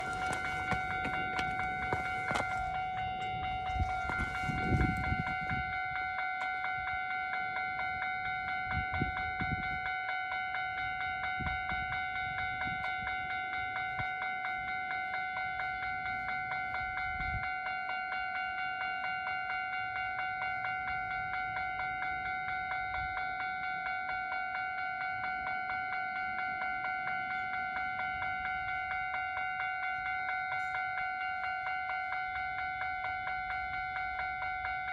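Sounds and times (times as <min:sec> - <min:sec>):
level-crossing warning bell: 0:00.0 - 0:34.9.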